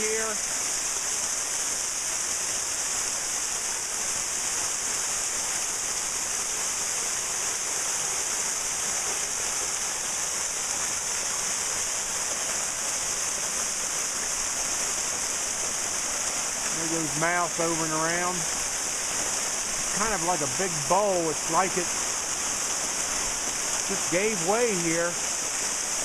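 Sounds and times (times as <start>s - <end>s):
waterfall pouring: 0.0s - 26.0s.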